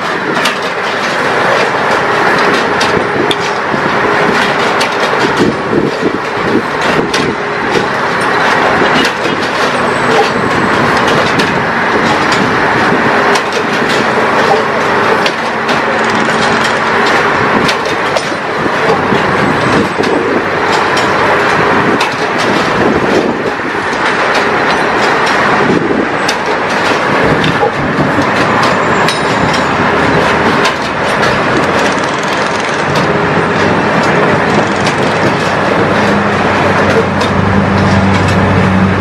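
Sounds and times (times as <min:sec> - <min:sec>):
metallic clanks and clicks: 0:00.0 - 0:38.5
track-laying machine running: 0:00.0 - 0:39.0.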